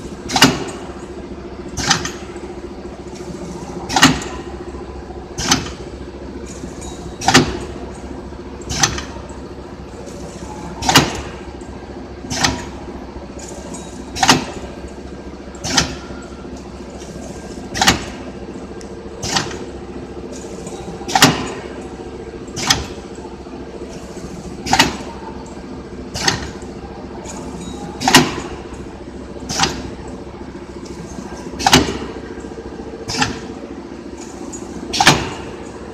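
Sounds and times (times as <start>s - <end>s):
packing machine motor hum: 0.0s - 35.9s.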